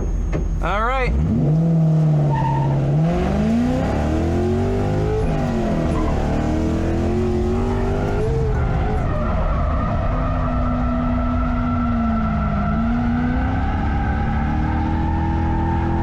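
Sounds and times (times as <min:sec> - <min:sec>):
car engine revving: 0:00.6 - 0:16.0.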